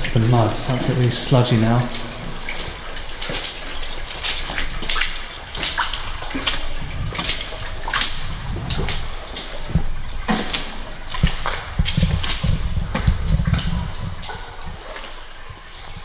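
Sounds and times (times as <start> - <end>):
footsteps squelching through mud: 0.0 - 16.0.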